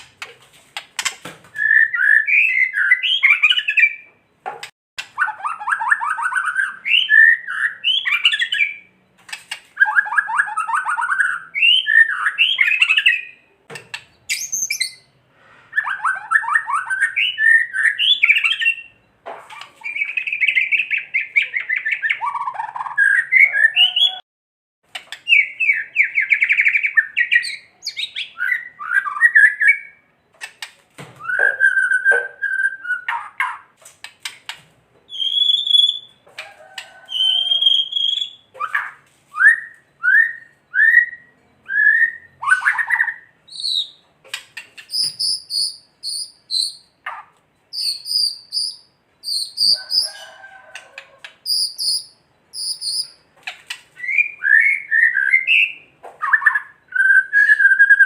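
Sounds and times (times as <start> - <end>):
bird singing rattling phrases: 0.9 - 4.4, 5.0 - 15.2, 15.8 - 24.2, 24.9 - 50.5, 51.4 - 58.0.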